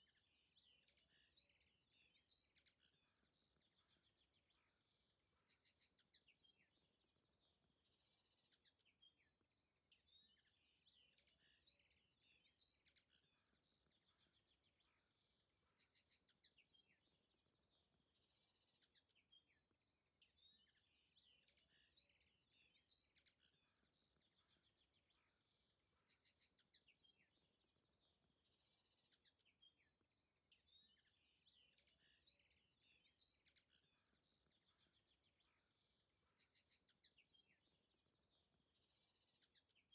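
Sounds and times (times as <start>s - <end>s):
faint songbird chirps and trills: 0.0s - 39.9s.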